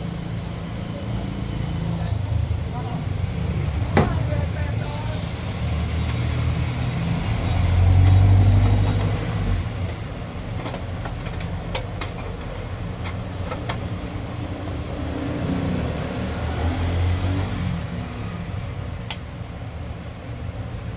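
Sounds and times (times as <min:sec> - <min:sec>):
low traffic rumble: 0:00.0 - 0:20.9.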